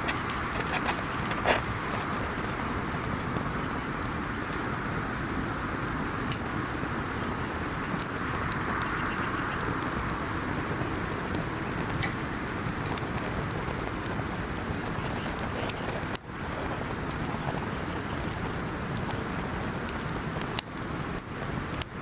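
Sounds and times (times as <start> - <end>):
campfire hissing and crackling: 0.0 - 22.0.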